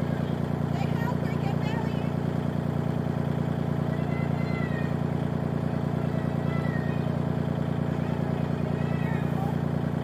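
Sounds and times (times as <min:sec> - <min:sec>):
tractor engine idling: 0:00.0 - 0:10.0.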